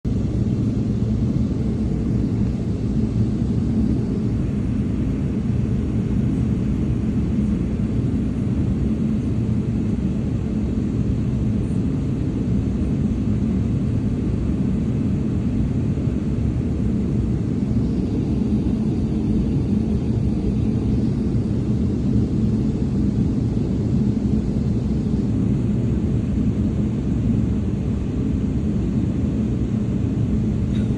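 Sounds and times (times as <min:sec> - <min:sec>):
airplane rumble: 0:00.0 - 0:30.9
faint hum of steady tones: 0:00.1 - 0:30.9.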